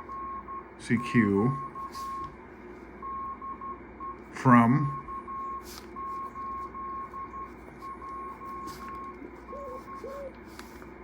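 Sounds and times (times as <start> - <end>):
morse code tone: 0.0 - 2.3, 3.0 - 10.3.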